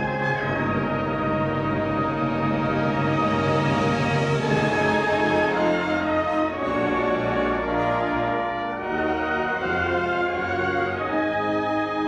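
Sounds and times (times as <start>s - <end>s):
orchestral brass music: 0.0s - 12.0s.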